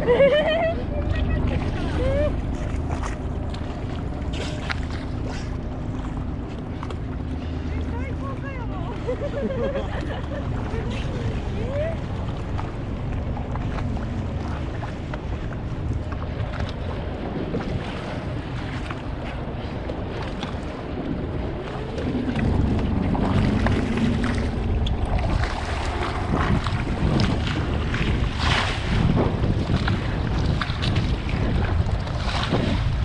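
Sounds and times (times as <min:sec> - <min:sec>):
underwater rush of water: 0:00.0 - 0:33.0.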